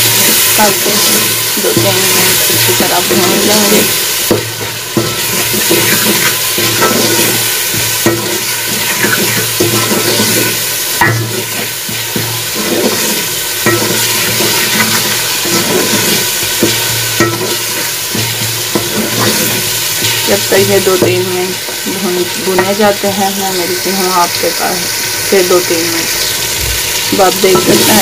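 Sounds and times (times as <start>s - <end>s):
wooden spoon scraping pot: 0.0s - 23.1s
food sizzling in oil: 0.0s - 28.0s.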